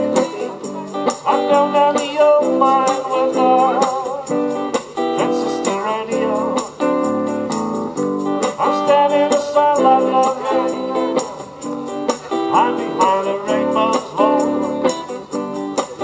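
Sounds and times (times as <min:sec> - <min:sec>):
archtop guitar strumming: 0:00.0 - 0:16.0.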